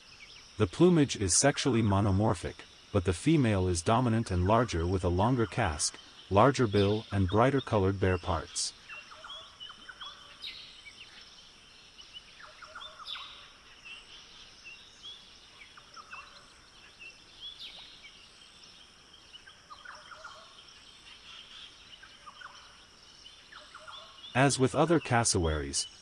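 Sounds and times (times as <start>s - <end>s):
birds chirping: 0.0s - 26.0s
high insect drone: 0.0s - 26.0s.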